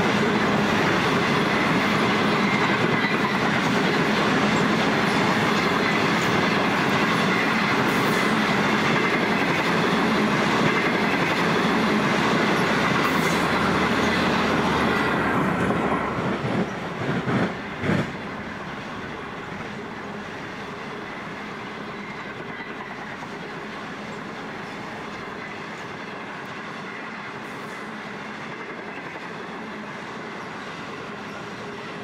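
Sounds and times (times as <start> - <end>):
loud train clanks: 0.0 - 32.0
train wheels rumbling on rails: 0.0 - 32.0.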